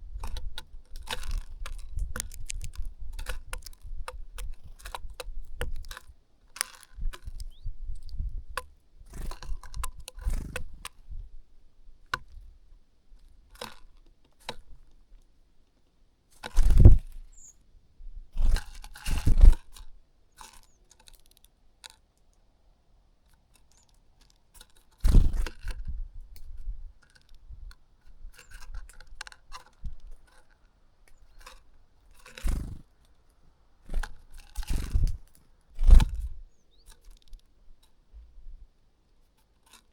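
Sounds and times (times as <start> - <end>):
birds pecking and scratching at food: 0.0 - 17.7, 18.3 - 39.9.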